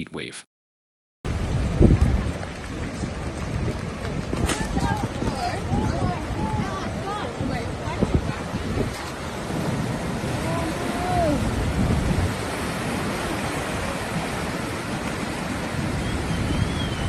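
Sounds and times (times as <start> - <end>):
floodwater rushing: 1.3 - 17.0
wind noise on microphone: 1.3 - 17.0.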